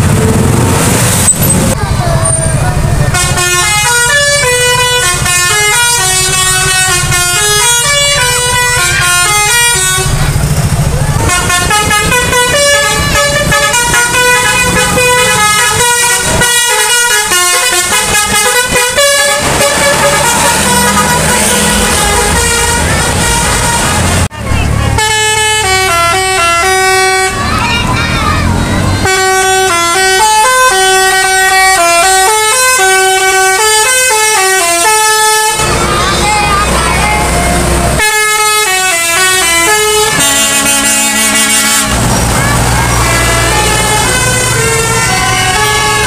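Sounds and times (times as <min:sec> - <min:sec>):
multi-tone bus horn playing a tune: 0:00.0 - 0:46.0
road and engine noise: 0:00.0 - 0:46.0.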